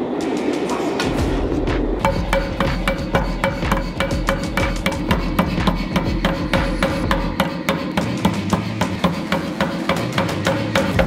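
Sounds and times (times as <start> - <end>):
power hammer striking hot metal: 1.0 - 11.0.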